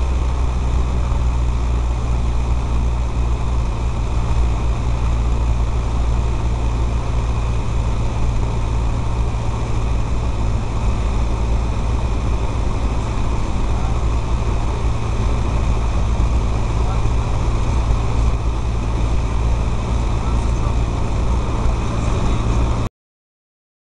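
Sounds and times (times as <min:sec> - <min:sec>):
airplane engine droning: 0:00.0 - 0:22.9.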